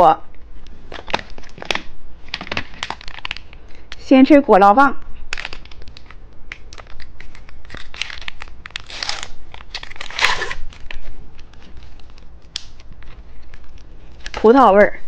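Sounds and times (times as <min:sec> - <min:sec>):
plastic packaging crinkling and tearing: 0:00.8 - 0:04.0, 0:05.2 - 0:14.6.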